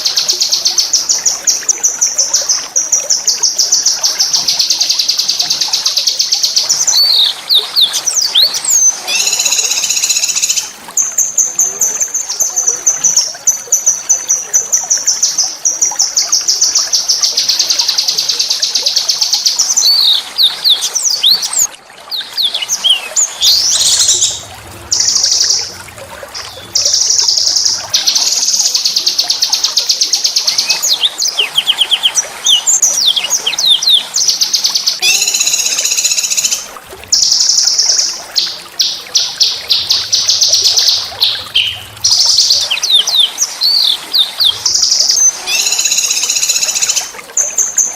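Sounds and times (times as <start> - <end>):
songbird singing trills: 0.0 - 13.1, 17.3 - 47.9.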